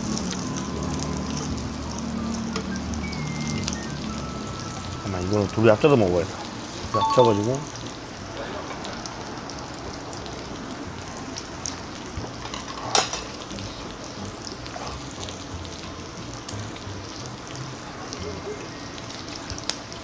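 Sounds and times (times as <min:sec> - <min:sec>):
pork sizzling on griddle: 0:00.0 - 0:20.0.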